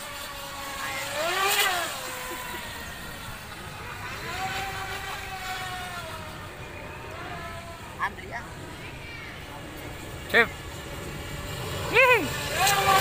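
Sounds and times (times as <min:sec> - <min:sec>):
model speedboat motor whine: 0:00.0 - 0:13.0.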